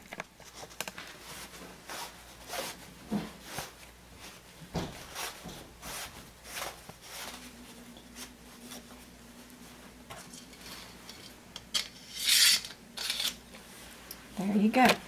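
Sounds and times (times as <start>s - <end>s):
curtain fabric rustling: 0.0s - 14.8s.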